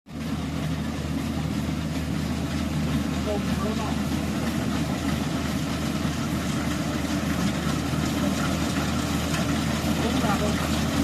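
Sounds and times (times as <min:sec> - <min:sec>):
heavy farm machine engine droning: 0:00.1 - 0:11.0.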